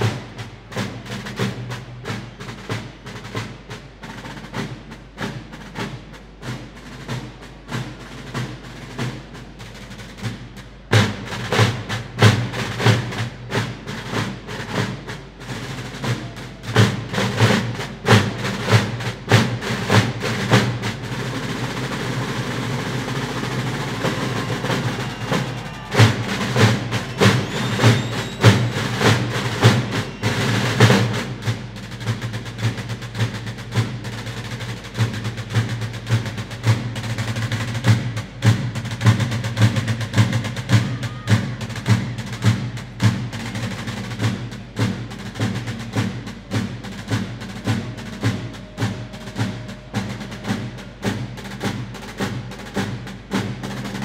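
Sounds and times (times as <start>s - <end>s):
large drums beaten with sticks: 0.0s - 54.0s.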